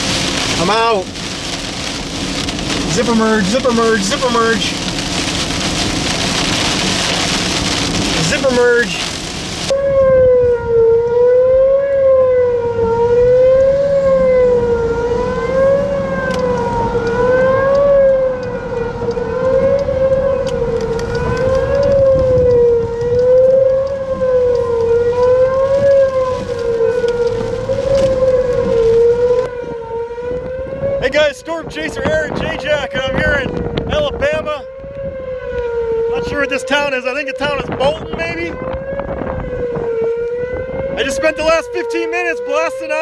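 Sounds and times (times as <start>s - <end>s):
vehicle and road rumble: 0.0s - 43.0s
warning siren wailing: 0.0s - 43.0s.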